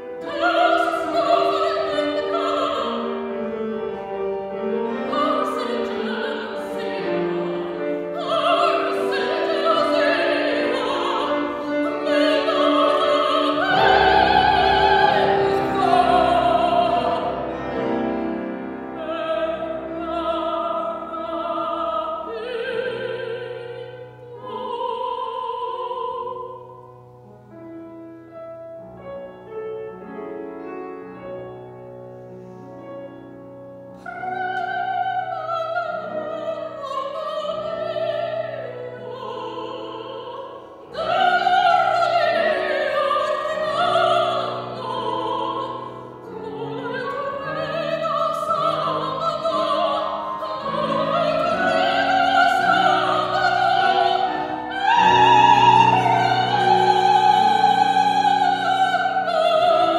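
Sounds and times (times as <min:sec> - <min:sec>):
piano accompaniment: 0:00.0 - 0:59.9
woman singing operatically: 0:00.1 - 0:04.0, 0:04.6 - 0:17.5, 0:18.9 - 0:26.7, 0:34.0 - 0:59.9.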